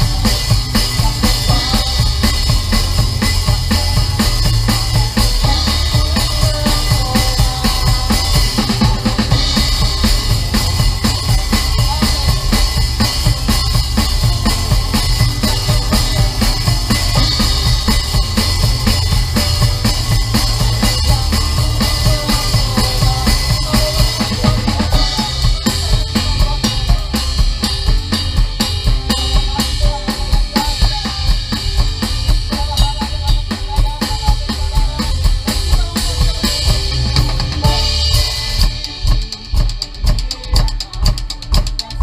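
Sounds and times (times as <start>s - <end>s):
band playing worship song: 0.0s - 42.0s
drum kit playing: 0.0s - 42.0s.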